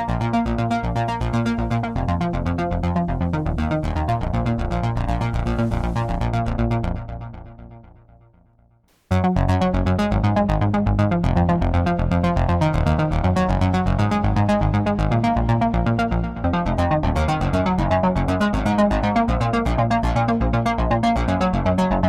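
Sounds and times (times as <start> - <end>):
synthesizer electronic music: 0.0 - 7.7, 9.1 - 22.0.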